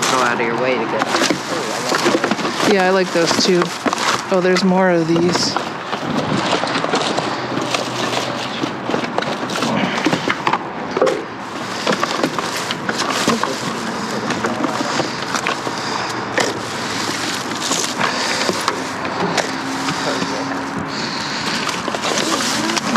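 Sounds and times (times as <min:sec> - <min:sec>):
items knocking and clattering: 0:00.0 - 0:22.9
rustling through trash: 0:00.0 - 0:22.9.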